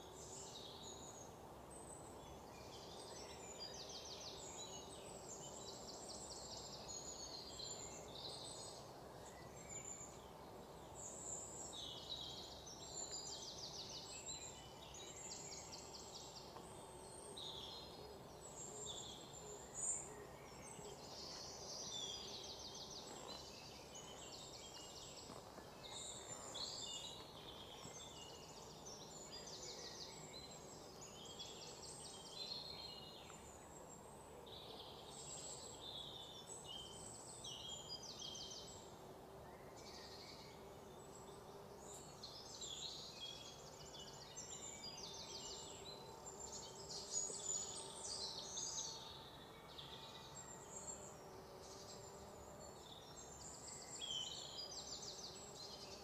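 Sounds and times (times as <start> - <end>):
open-air background hiss: 0.0 - 56.0.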